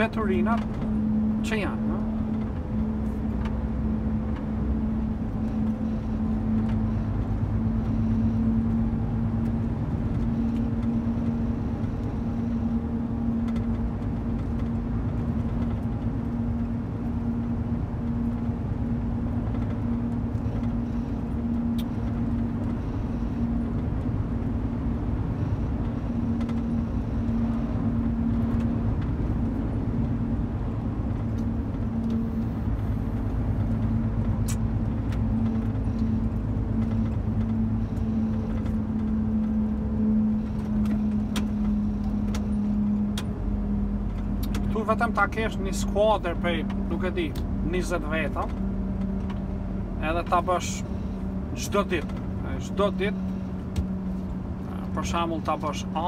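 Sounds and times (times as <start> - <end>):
car engine hum: 0.0 - 56.0
tyre and road rumble: 0.0 - 56.0.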